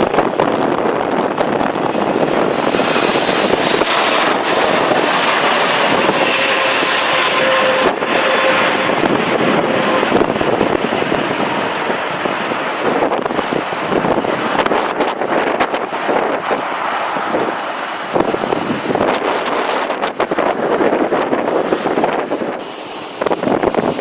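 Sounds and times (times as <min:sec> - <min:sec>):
gusty wind on microphone: 0:00.0 - 0:24.0
jet airliner engine: 0:00.0 - 0:24.0.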